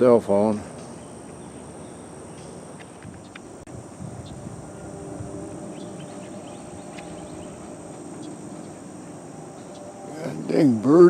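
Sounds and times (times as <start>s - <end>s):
low bird calls: 0.0s - 10.6s
high-pitched insect drone: 0.0s - 11.0s.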